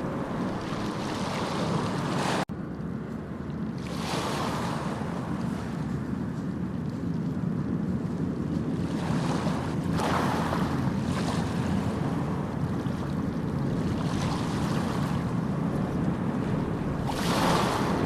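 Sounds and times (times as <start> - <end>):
sea waves washing in: 0.0 - 2.6, 3.3 - 18.0.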